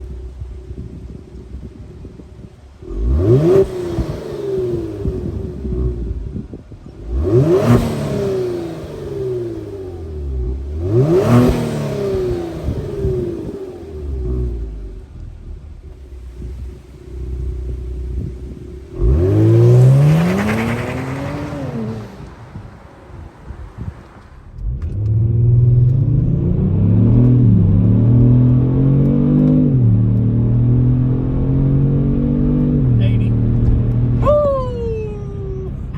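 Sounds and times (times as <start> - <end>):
car engine revving: 2.8 - 34.4.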